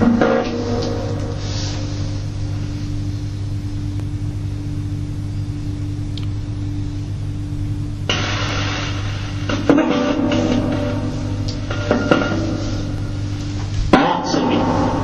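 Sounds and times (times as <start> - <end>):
low hum with hiss: 0.0 - 15.0.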